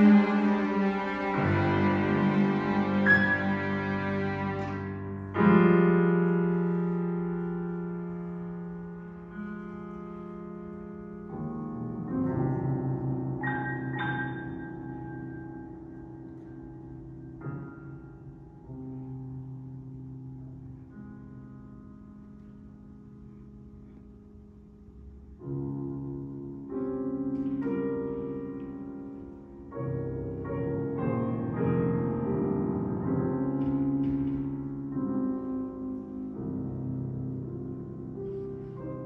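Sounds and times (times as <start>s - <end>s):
piano with string orchestra: 0.0s - 39.0s.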